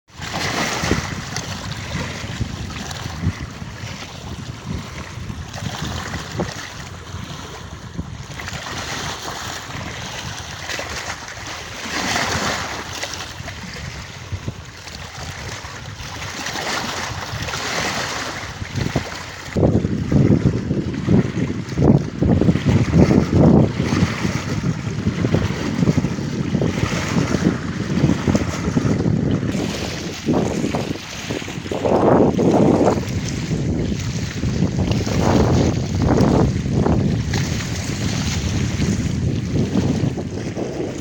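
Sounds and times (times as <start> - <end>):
sea waves: 0.1 - 41.0
wind noise on microphone: 0.1 - 41.0.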